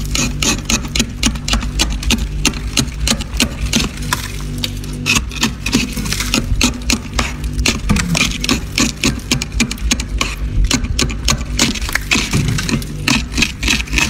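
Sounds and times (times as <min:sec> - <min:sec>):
frost crunching: 0:00.0 - 0:14.0
low steady hum: 0:00.0 - 0:14.0.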